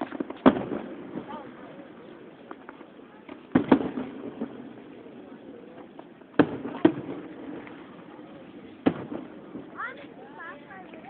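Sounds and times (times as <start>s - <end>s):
fireworks booming with echo: 0.0s - 11.0s.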